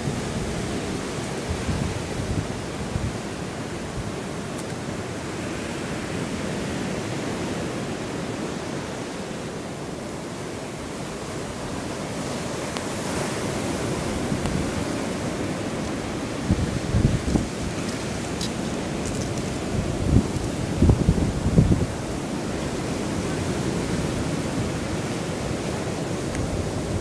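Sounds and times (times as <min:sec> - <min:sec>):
wind on microphone: 0:00.0 - 0:09.0, 0:11.1 - 0:27.0
surf rushing on shore: 0:00.0 - 0:27.0.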